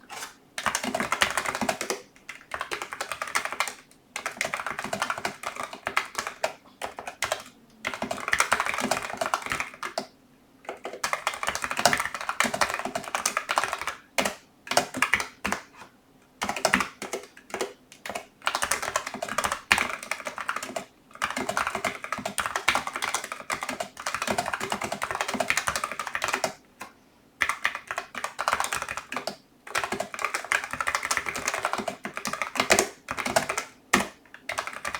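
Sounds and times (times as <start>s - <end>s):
mechanical keyboard typing: 0.0s - 15.7s, 16.4s - 26.6s, 27.4s - 34.9s.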